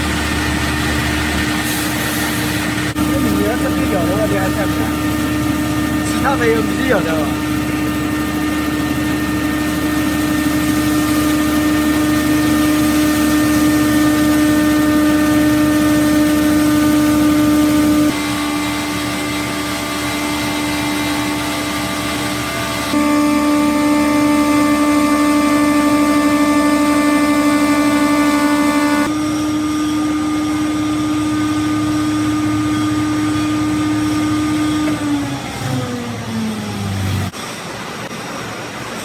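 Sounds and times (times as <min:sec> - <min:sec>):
grinding mill motor whining: 0:02.6 - 0:37.3.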